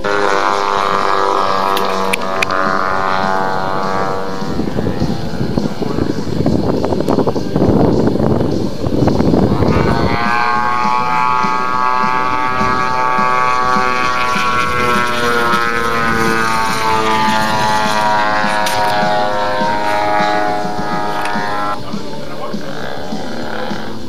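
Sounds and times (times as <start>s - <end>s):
model airplane engine and propeller: 0.0s - 24.0s
wind rumble on microphone: 0.0s - 24.0s.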